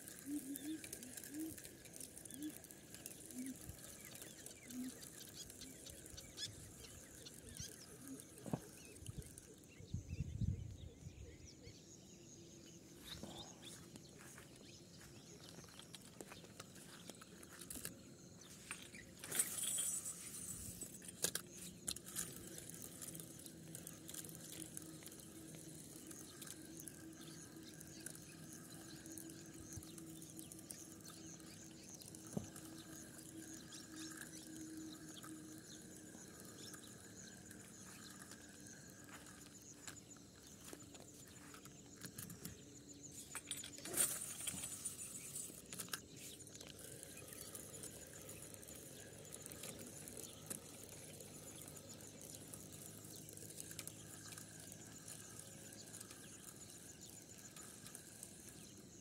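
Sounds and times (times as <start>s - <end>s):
fishing rod handling clicks and rustles: 0.0s - 9.7s, 13.2s - 59.0s.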